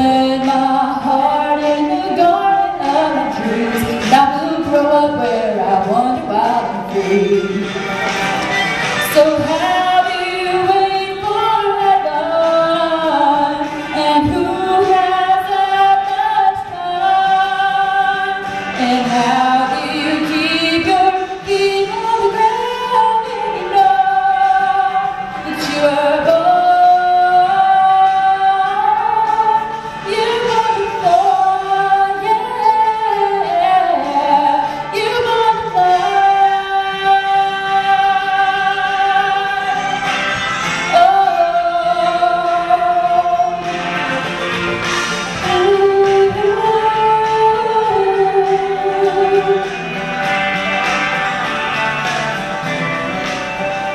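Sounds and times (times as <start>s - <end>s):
woman singing: 0.0s - 8.1s, 9.0s - 40.2s, 40.8s - 44.2s, 45.2s - 50.0s.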